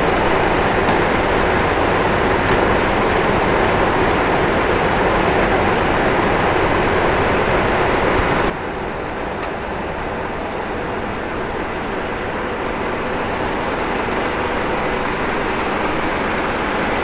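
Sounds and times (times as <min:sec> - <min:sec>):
diesel vehicles idling: 0:00.0 - 0:17.0
steady background hum: 0:00.0 - 0:17.0.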